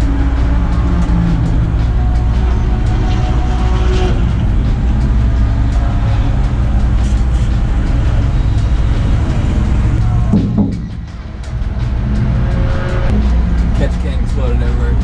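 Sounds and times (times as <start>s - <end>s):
loud car engine racing: 0.0s - 15.0s
road noise: 0.0s - 15.0s.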